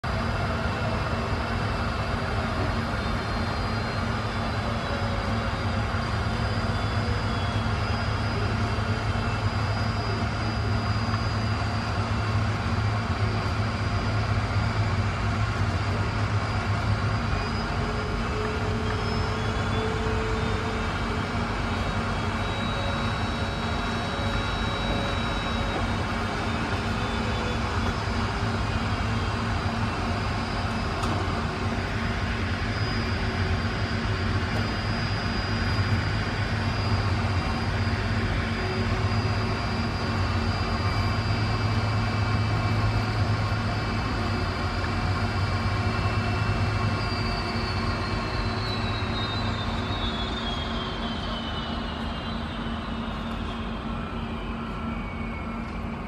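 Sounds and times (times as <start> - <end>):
jet airliner engine hum and whine: 0.0 - 56.0.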